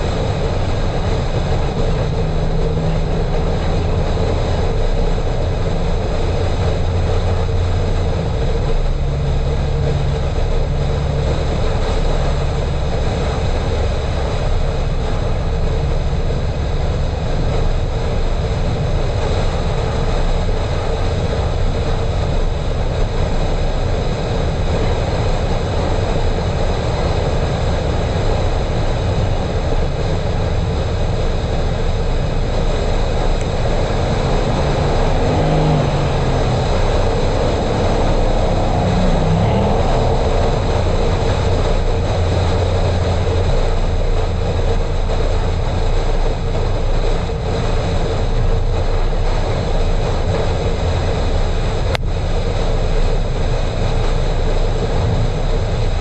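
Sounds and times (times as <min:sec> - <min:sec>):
low engine drone: 0:00.0 - 0:56.0
tyre roar on asphalt: 0:00.0 - 0:56.0
wind rush: 0:00.0 - 0:56.0.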